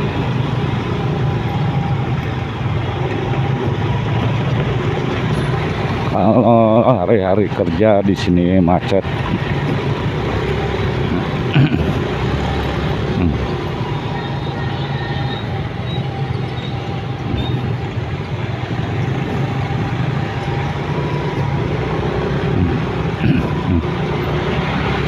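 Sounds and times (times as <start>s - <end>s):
city traffic: 0.0s - 25.0s
motorcycle engine hum: 0.0s - 25.0s
road noise: 0.0s - 25.0s.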